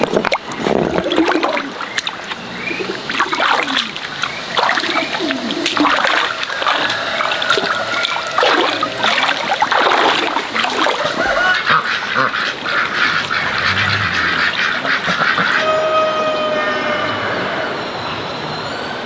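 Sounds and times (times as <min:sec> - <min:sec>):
stream water splashing and trickling: 0:00.0 - 0:15.6.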